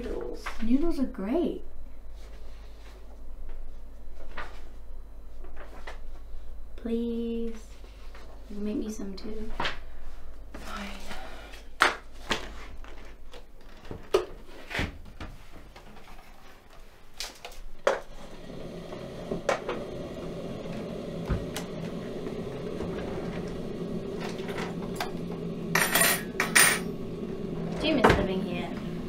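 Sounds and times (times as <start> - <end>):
steady hum: 0.0 - 12.9, 16.9 - 29.0.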